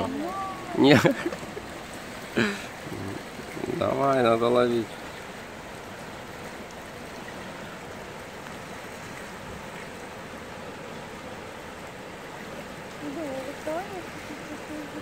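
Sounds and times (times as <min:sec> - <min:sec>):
river running over rocks: 0:00.0 - 0:15.0.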